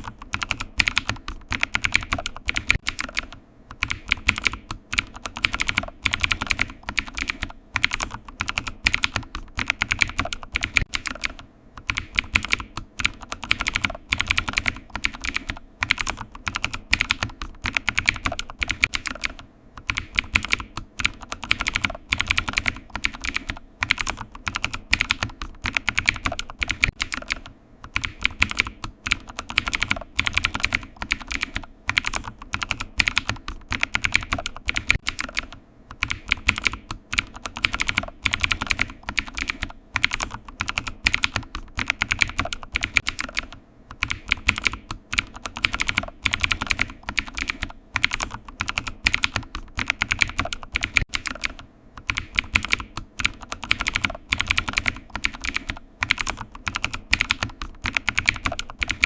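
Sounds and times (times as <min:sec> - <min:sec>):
computer keyboard typing: 0:00.0 - 0:59.0.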